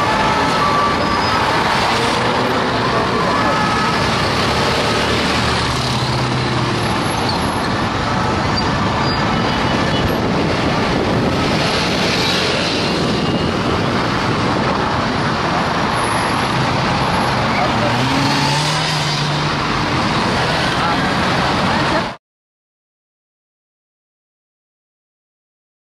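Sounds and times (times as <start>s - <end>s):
slow city traffic: 0.0s - 22.2s.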